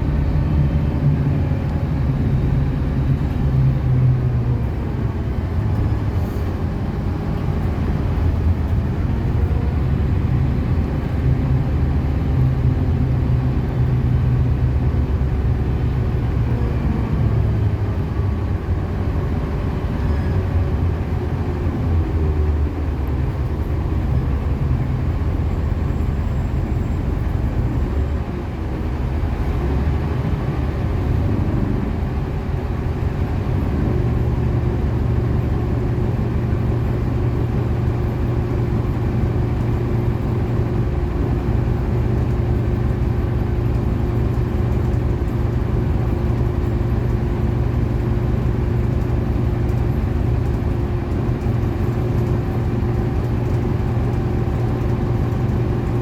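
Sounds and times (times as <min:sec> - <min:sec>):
bus engine droning: 0:00.0 - 0:56.0
road noise: 0:00.0 - 0:56.0.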